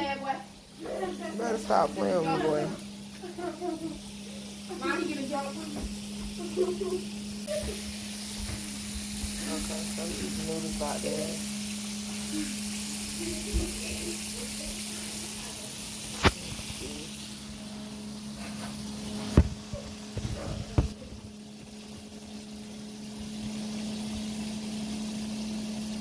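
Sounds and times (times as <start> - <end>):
stovetop cooking sizzle: 0.0 - 26.0.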